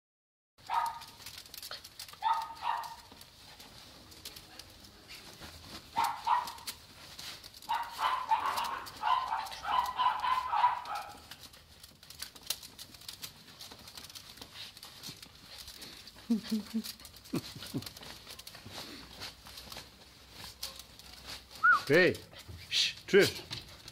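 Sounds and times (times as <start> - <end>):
dog claws clicking and scraping: 0.6 - 21.6, 22.2 - 23.9.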